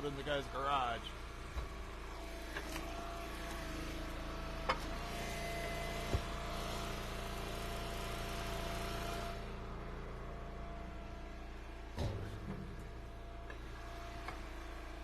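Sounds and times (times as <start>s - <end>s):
wood splitter engine running: 0.0s - 15.0s.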